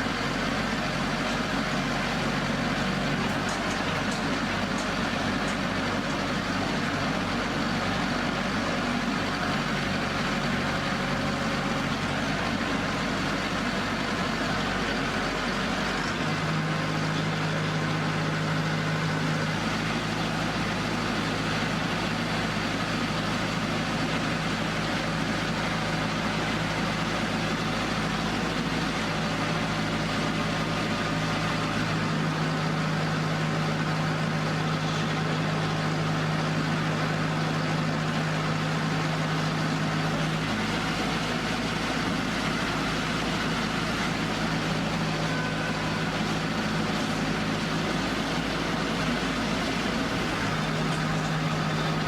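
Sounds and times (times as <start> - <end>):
pile driver engine humming: 0.0 - 52.0.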